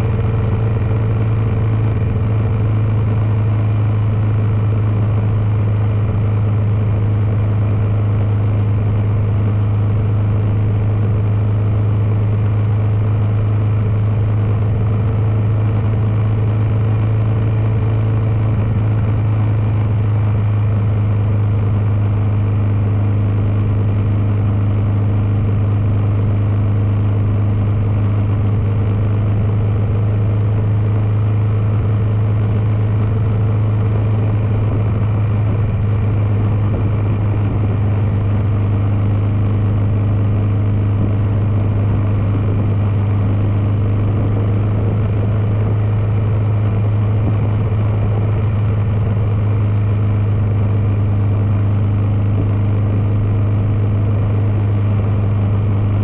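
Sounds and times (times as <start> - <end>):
motorcycle engine cruising: 0.0 - 56.0
wind and road rush: 0.0 - 56.0.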